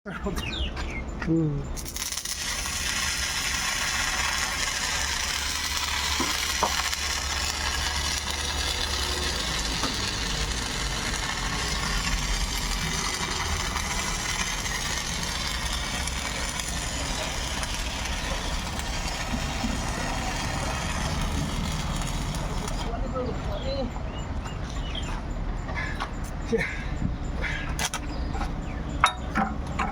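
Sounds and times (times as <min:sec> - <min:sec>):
excavator engine running: 0:02.4 - 0:29.9.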